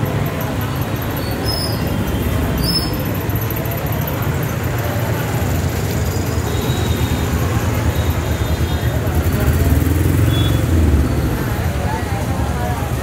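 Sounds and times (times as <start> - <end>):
indistinct crowd voices: 0.0 - 13.0
traffic rumble: 0.0 - 13.0.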